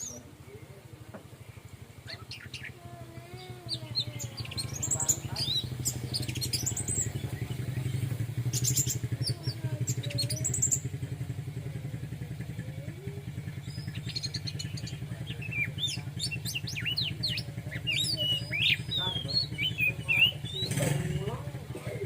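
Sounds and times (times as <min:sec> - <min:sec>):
bird singing high chirps: 0:00.0 - 0:00.3, 0:01.4 - 0:21.4
low mechanical hum: 0:00.0 - 0:22.0.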